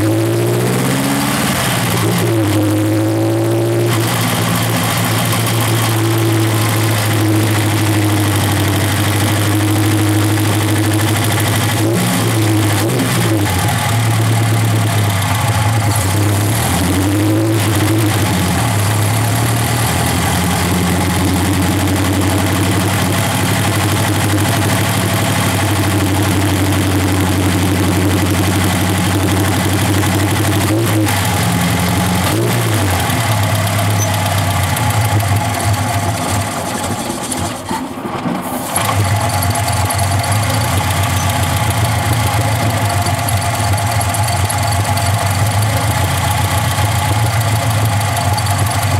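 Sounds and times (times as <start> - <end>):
car engine idling: 0.0 - 37.7, 38.6 - 48.9.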